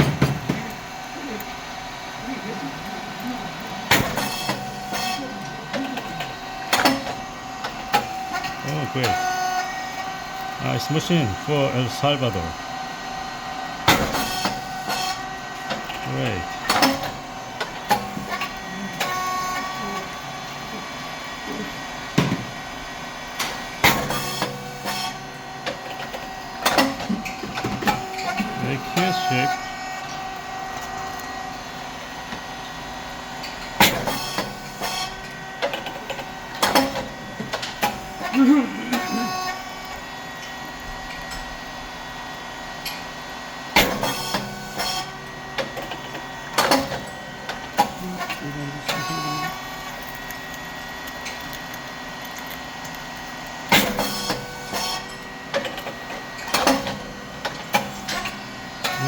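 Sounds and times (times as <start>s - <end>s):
machine humming: 0.0s - 59.0s.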